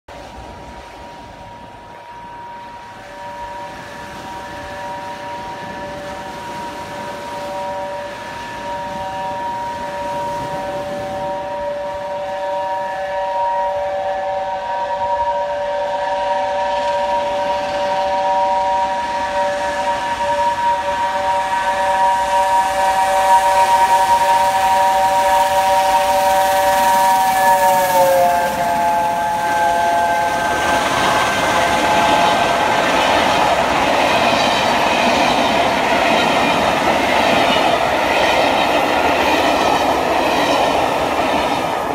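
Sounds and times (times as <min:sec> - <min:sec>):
steam locomotive whistle chord: 0:00.5 - 0:41.9
train hissing: 0:00.9 - 0:41.9.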